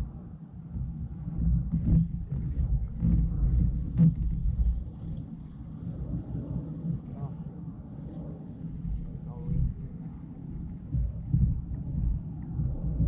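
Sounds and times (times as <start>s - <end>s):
low microphone rumble: 0.0s - 13.0s.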